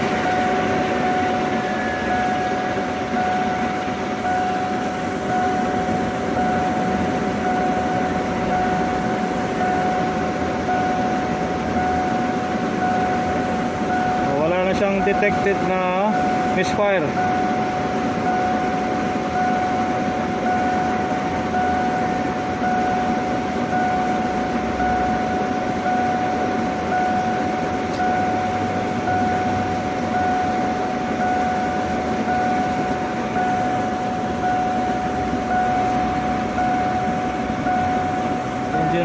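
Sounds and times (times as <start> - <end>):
engine idling: 0.0 - 39.0
pulsing high tone: 0.0 - 39.0
steady high whine: 0.0 - 39.0.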